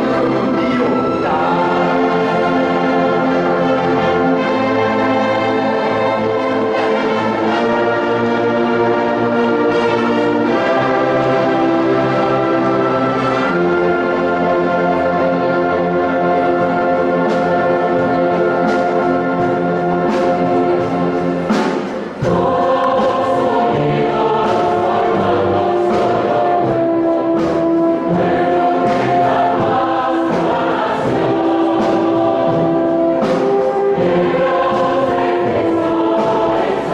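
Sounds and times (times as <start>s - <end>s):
choir singing: 0.0s - 36.9s
orchestra playing classical music: 0.0s - 36.9s.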